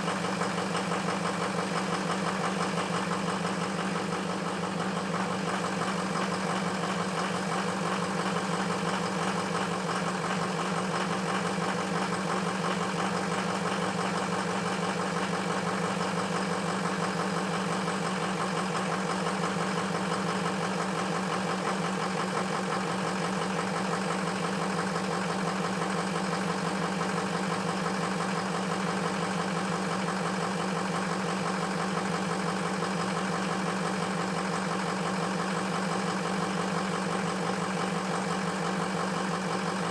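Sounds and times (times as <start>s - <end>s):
truck engine idling roughly: 0.0s - 39.9s.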